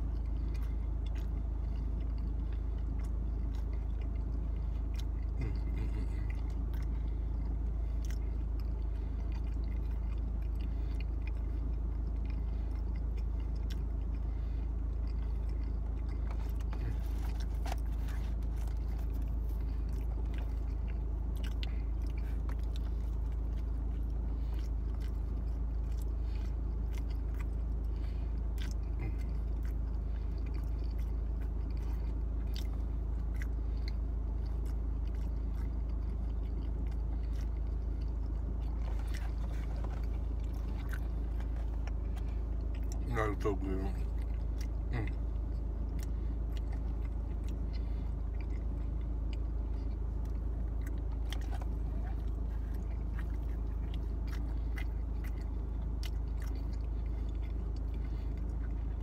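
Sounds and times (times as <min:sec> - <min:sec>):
chewing pizza: 0:00.0 - 0:59.0
low hum inside car: 0:00.0 - 0:59.0.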